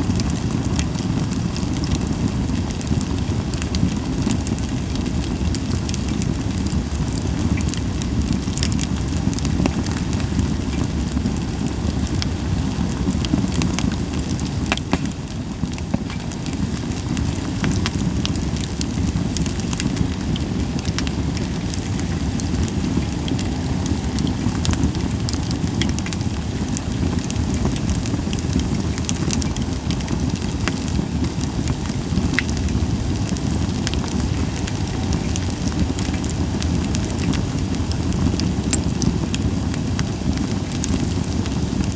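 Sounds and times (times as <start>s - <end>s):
campfire crackling: 0.0s - 41.9s
low rush of flame: 0.0s - 41.9s.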